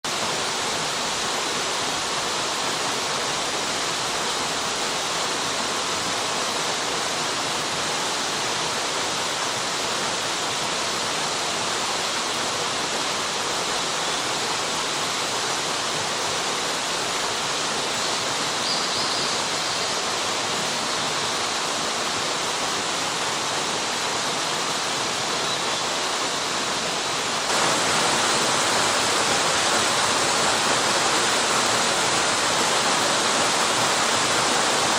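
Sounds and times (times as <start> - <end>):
waterfall rushing roar: 0.1 - 34.9.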